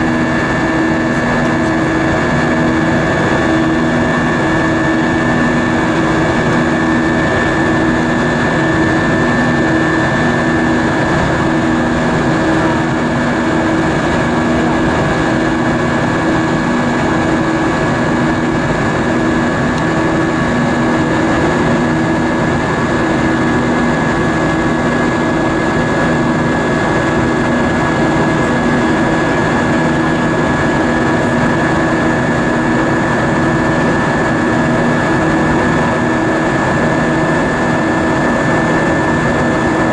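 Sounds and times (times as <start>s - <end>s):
aircraft cabin engine drone: 0.0s - 39.9s
thin steady whine: 0.0s - 39.9s.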